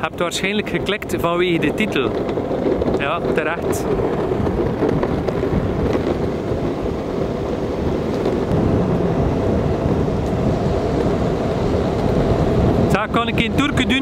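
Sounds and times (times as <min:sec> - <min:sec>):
skateboard wheels rolling on pavement: 0:00.0 - 0:14.0
wind buffeting microphone: 0:00.0 - 0:14.0.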